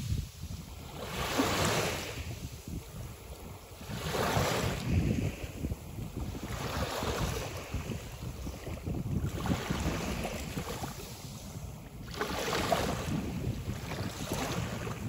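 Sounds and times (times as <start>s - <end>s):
waves breaking on sand: 0.0s - 15.0s
wind rumbling on microphone: 0.0s - 15.0s.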